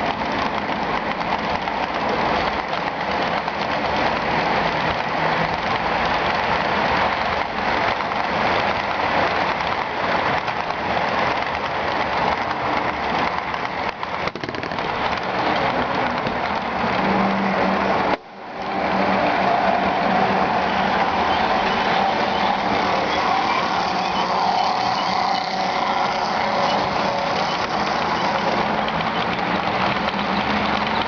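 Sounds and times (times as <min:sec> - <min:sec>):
model train wheels rattling on track: 0:00.0 - 0:31.0
wheels clicking over rail joints: 0:00.0 - 0:31.0.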